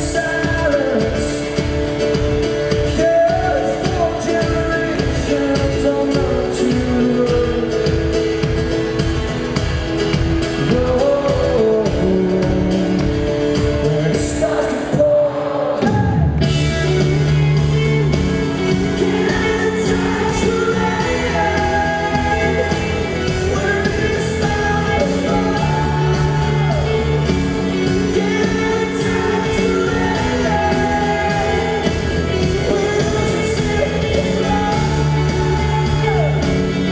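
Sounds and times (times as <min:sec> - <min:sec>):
acoustic guitar: 0:00.0 - 0:36.9
male lead vocal: 0:00.0 - 0:36.9
pop-rock band playing live: 0:00.0 - 0:36.9.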